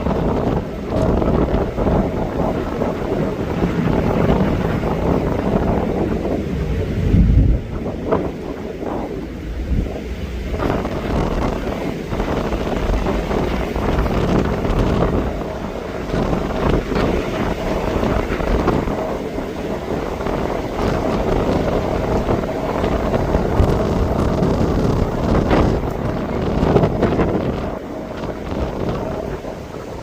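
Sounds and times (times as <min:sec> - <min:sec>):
jet engine rumble: 0:00.0 - 0:30.0
wind buffeting microphone: 0:00.0 - 0:30.0.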